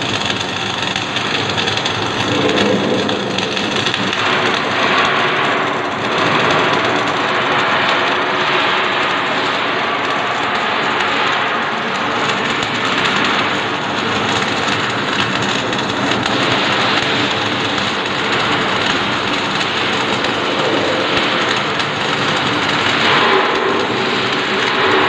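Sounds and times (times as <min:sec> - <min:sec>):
welding arc crackling and hissing: 0:00.0 - 0:25.0.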